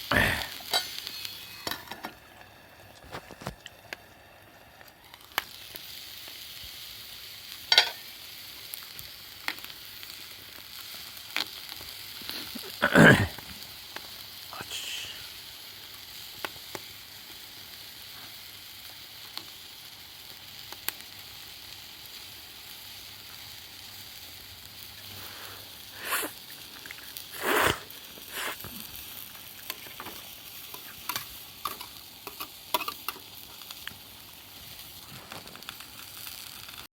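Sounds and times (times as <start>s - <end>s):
campfire crackling and popping: 0.0s - 36.9s
light rain hiss: 0.0s - 36.9s.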